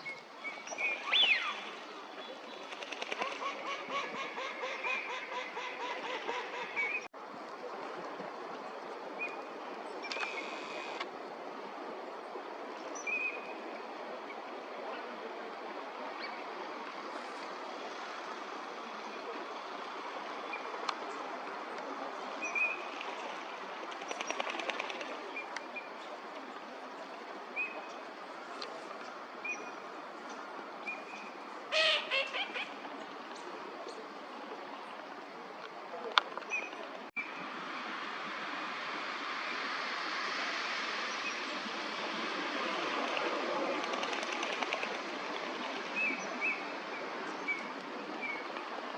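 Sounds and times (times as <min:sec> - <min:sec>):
steady background noise: 0:00.0 - 0:48.9.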